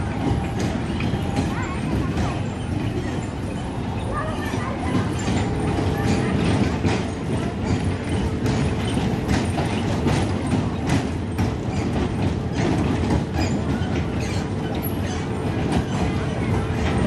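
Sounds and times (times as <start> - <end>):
clicks and clacks: 0.0 - 17.0
kiddie train rattling on track: 0.0 - 17.0.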